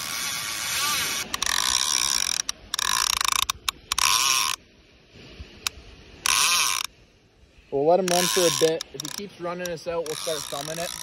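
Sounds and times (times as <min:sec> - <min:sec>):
fishing reel ratcheting: 0:00.0 - 0:04.6, 0:05.6 - 0:06.9, 0:08.0 - 0:11.0.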